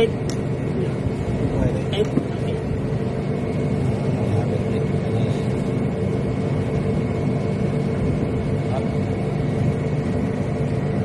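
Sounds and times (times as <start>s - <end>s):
engine-room machinery drone: 0.0s - 11.0s
faint high whine: 0.0s - 11.0s.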